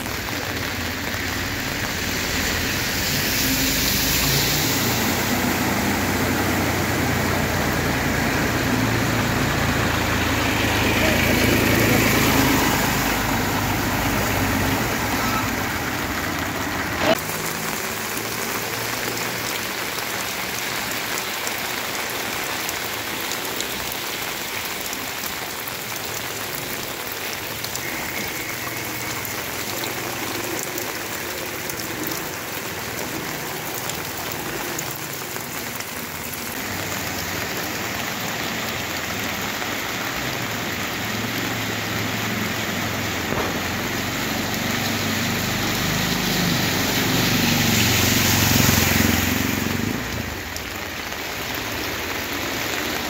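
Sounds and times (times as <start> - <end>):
auto-rickshaw engine: 0.0 - 53.0
rain falling on flooded street: 0.0 - 53.0.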